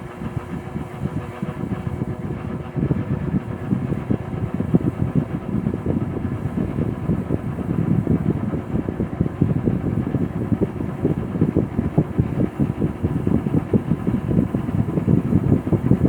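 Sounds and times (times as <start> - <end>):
fan motor hum: 0.0 - 16.0
fluttering rumble of moving air: 0.0 - 16.0.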